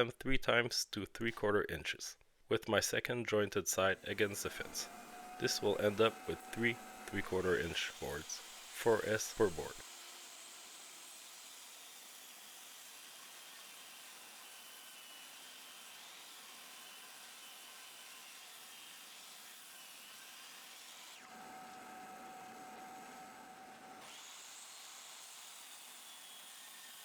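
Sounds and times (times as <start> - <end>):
table saw ripping wood: 4.0 - 27.0.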